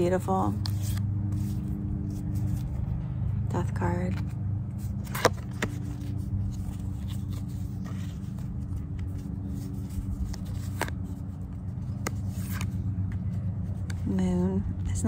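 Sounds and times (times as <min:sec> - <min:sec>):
cards rustling: 0:00.0 - 0:14.2
steady low hum: 0:00.0 - 0:15.0.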